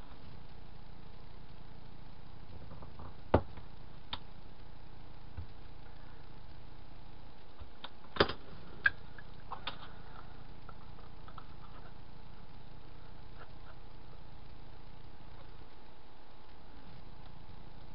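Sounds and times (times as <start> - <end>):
steady background hum: 0.0 - 17.9.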